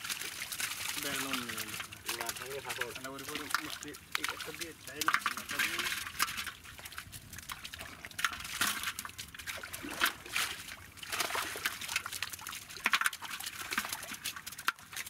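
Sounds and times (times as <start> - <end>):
shallow water splashing: 0.0 - 15.0.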